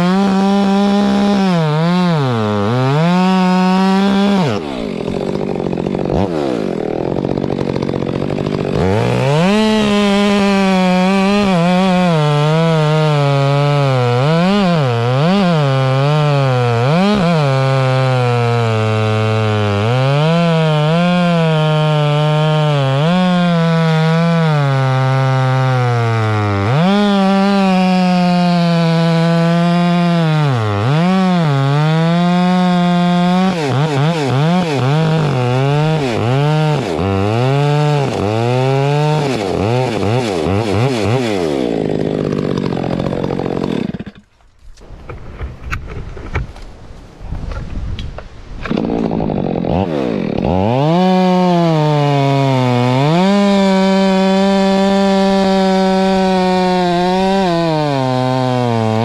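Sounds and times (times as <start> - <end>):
chainsaw throttle blips: 0.0 - 46.6, 48.6 - 59.0
chainsaw cutting log: 0.0 - 59.0.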